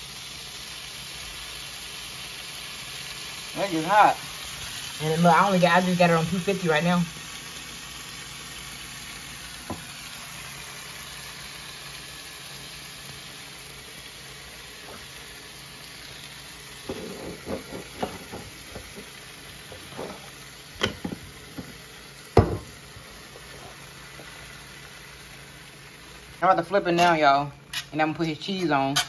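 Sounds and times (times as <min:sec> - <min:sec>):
meat sizzling on griddle: 0:00.0 - 0:29.0.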